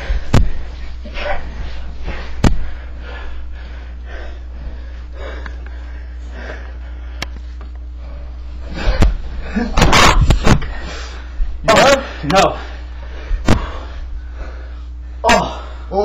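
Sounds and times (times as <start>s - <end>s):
heavy rhythmic breathing: 0.0s - 16.0s
low electrical hum: 0.0s - 16.0s.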